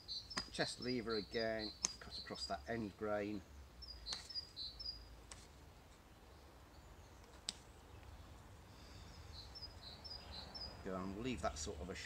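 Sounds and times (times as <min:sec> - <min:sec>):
small bird chirping: 0:00.0 - 0:02.6, 0:03.4 - 0:05.2, 0:06.1 - 0:11.8.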